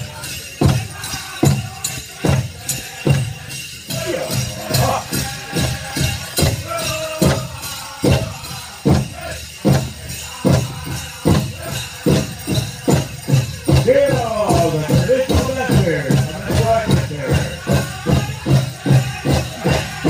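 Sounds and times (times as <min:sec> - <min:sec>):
big drum beating: 0:00.0 - 0:20.0
metallic bells jingling: 0:00.0 - 0:20.0
people singing: 0:00.0 - 0:20.0.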